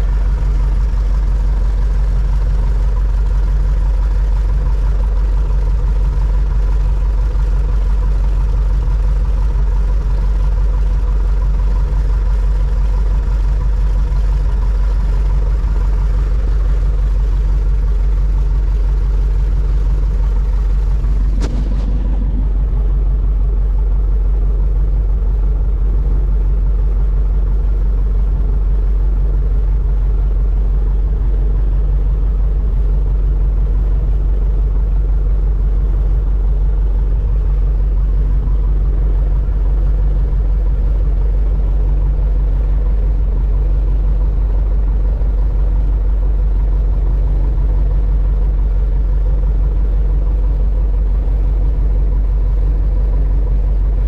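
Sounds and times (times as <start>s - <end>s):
plane engine low drone: 0.0s - 54.0s.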